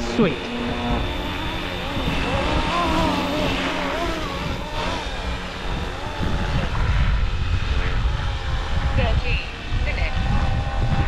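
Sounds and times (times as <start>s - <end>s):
rc helicopter rotor whine: 0.0s - 11.0s
wind buffeting microphone: 0.0s - 11.0s.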